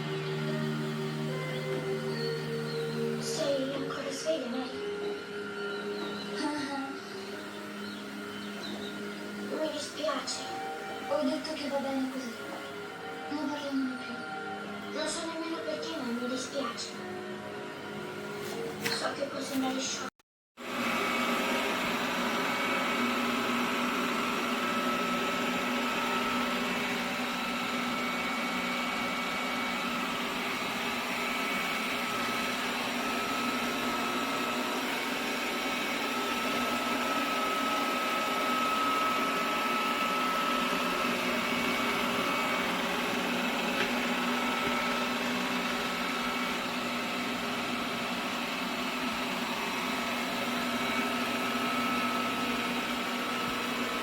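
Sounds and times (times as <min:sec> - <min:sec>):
robot vacuum running: 0:00.0 - 0:20.0, 0:20.6 - 0:54.0.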